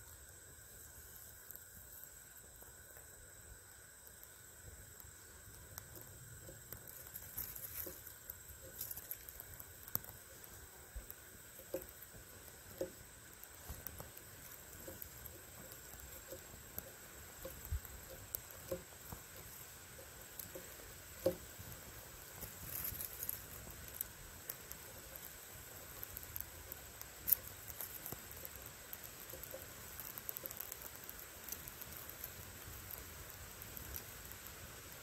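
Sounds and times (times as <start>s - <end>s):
small fire crackling: 0.0s - 35.0s.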